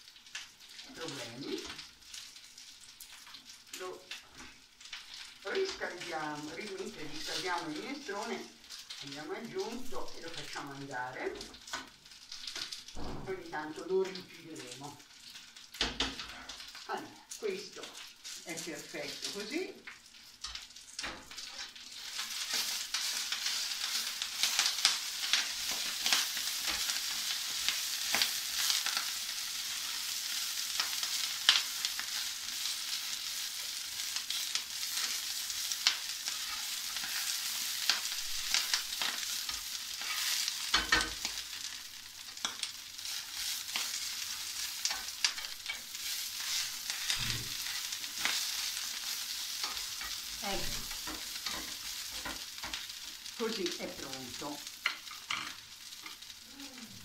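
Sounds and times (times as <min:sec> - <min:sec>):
greens sizzling in frying pan: 0:00.0 - 0:57.0.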